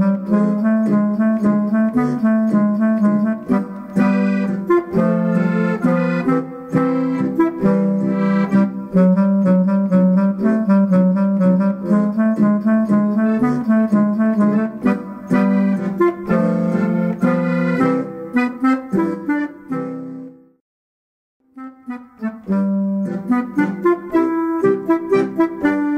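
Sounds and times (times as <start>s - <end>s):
accordion folk dance tune: 0.0s - 20.4s, 21.6s - 25.9s.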